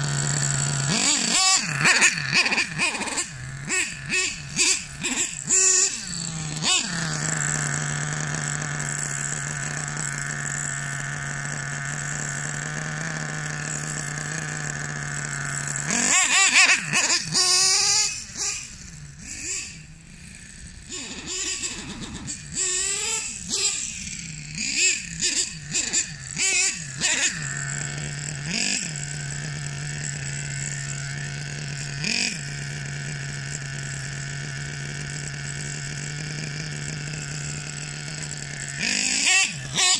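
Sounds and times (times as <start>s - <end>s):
model engine running and revving: 0.0s - 39.9s.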